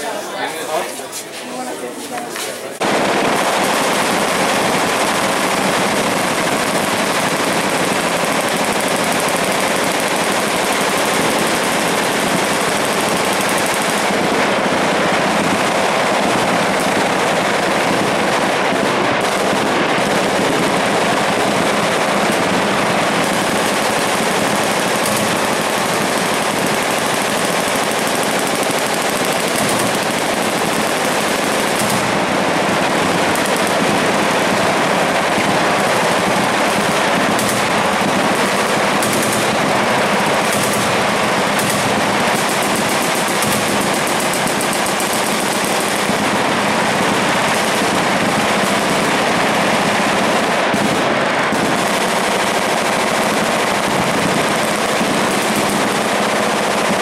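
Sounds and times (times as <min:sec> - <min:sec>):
machine guns firing: 0:02.8 - 0:57.0.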